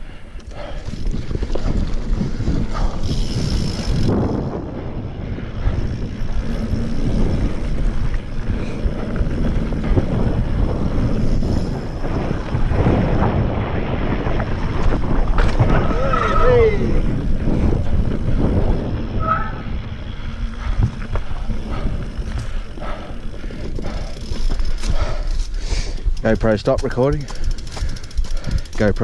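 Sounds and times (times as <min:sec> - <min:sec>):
wind on microphone: 0:00.0 - 0:26.5
bike knocking and rattling: 0:00.0 - 0:29.0
bike tyres rumbling on dirt: 0:00.0 - 0:29.0.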